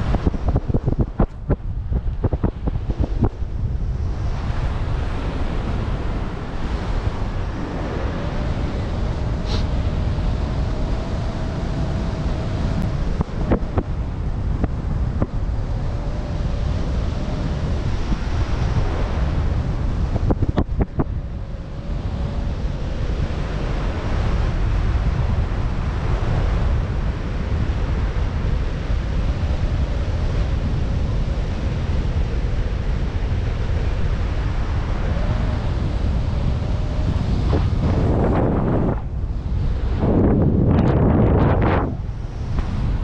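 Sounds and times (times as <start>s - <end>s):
wind noise on microphone: 0.0s - 43.0s.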